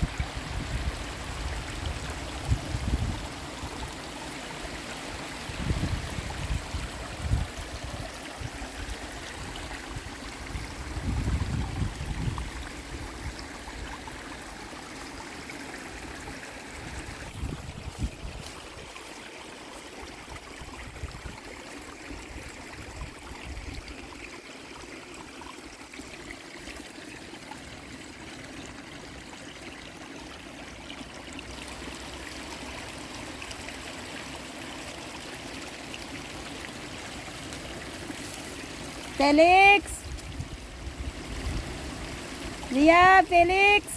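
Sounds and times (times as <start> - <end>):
river water flowing: 0.0 - 43.9.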